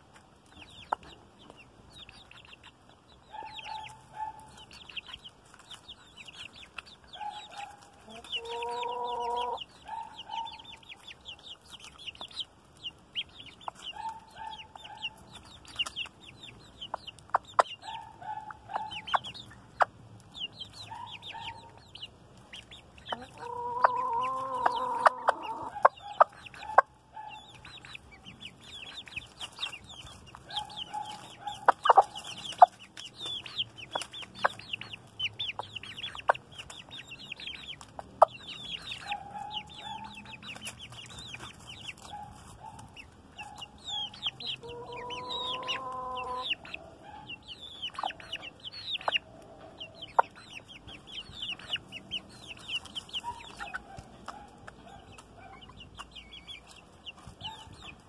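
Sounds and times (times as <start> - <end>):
chicks cheeping: 0.0 - 58.0
hen clucking: 0.0 - 58.0.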